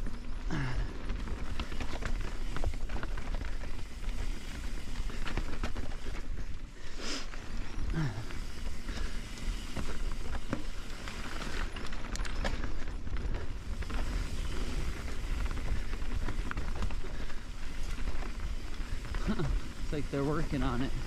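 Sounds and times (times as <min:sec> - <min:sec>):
bike clicks and rattles: 0:00.0 - 0:21.0
tyre and trail rumble: 0:00.0 - 0:21.0.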